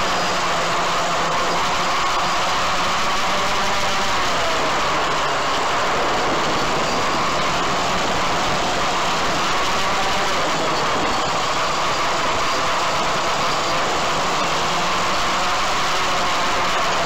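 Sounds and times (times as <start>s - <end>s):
drone propellers buzzing: 0.0s - 17.0s
wind rushing over microphone: 0.0s - 17.0s.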